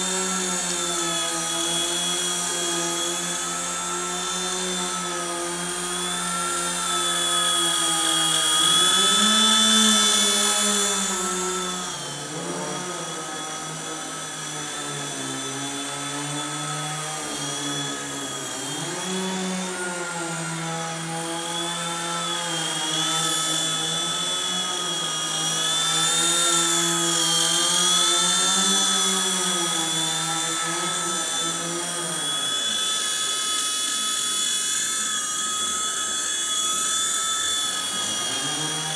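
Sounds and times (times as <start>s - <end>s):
rc helicopter rotor whining: 0.0s - 38.9s.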